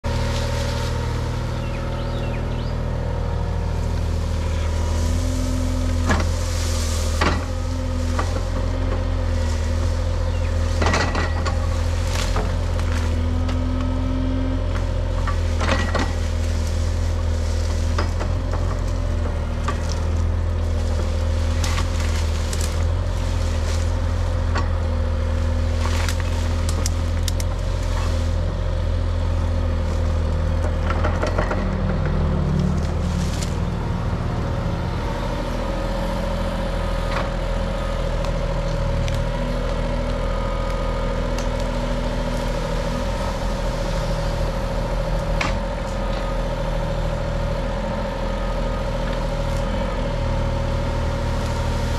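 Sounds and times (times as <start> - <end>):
brush cracking and snapping: 0.0 - 1.9, 3.1 - 47.0, 48.6 - 51.9
excavator diesel engine running: 0.0 - 51.9.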